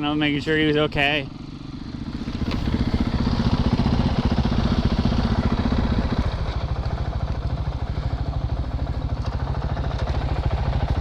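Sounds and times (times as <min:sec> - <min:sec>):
dirt bike engine revving: 0:00.7 - 0:11.0.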